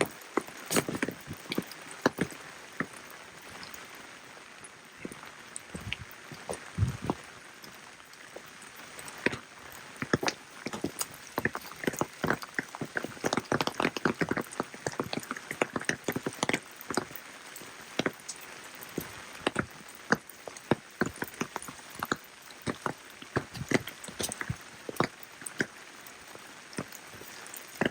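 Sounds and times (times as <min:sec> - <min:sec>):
light steady rain hiss: 0:00.0 - 0:27.9
rain drops striking: 0:00.0 - 0:27.9.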